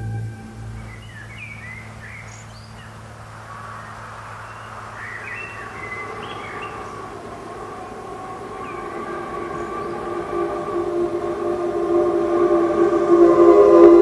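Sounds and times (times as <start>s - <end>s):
small birds chirping: 0.0s - 11.4s
background hiss: 0.0s - 14.0s
steady low hum: 0.0s - 14.0s.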